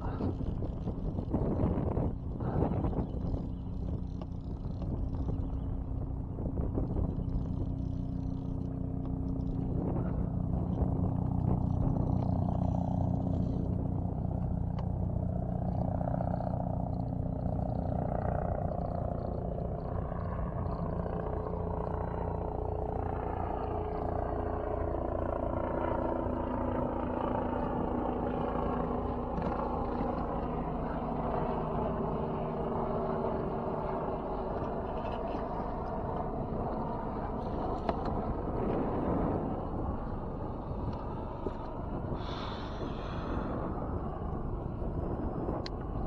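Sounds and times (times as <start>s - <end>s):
boat motor running: 0.0s - 46.0s.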